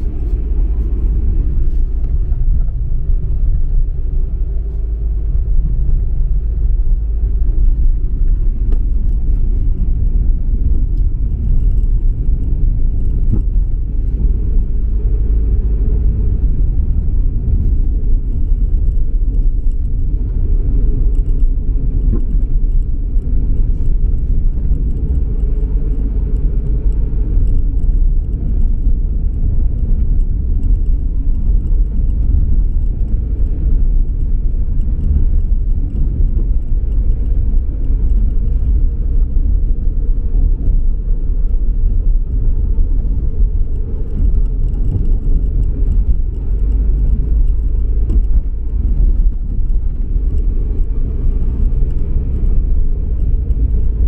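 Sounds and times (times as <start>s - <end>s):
car engine rumble: 0.0s - 54.0s.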